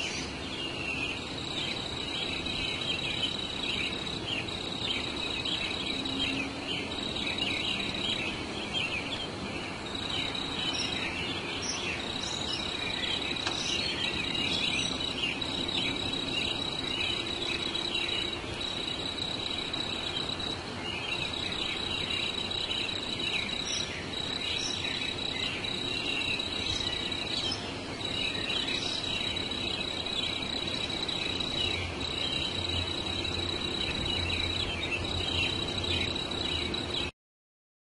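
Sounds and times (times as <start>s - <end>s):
crickets trilling: 0.0s - 37.1s.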